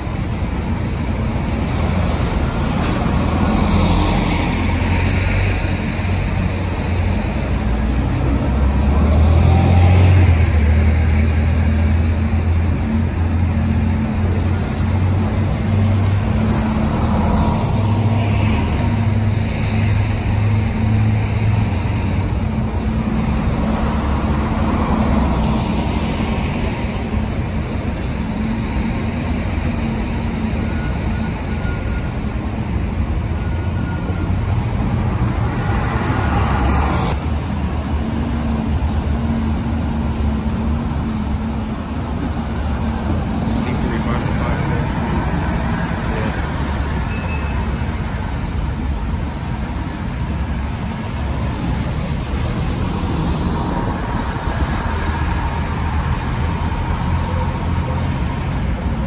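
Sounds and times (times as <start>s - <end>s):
buses driving past: 0.0s - 59.0s
traffic rumble: 0.0s - 59.0s.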